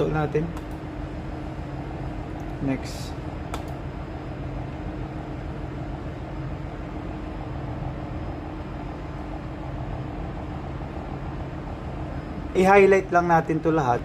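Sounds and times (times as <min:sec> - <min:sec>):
low machinery hum: 0:00.0 - 0:14.0
low steady tones: 0:00.0 - 0:14.0
ventilation hiss: 0:00.0 - 0:14.0.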